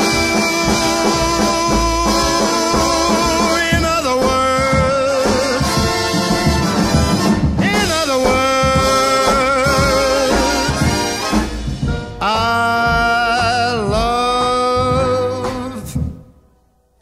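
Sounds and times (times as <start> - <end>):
swing big band music: 0.0 - 16.3.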